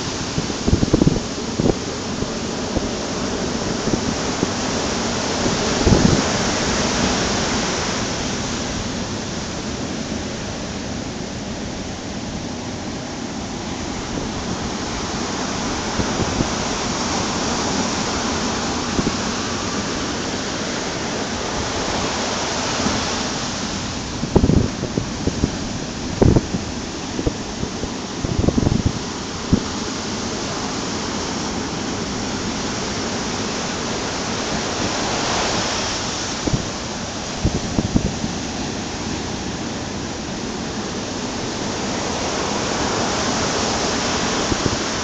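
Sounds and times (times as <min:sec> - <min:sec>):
ocean surf breaking on beach: 0:00.0 - 0:45.0
wind gust on microphone: 0:00.0 - 0:45.0.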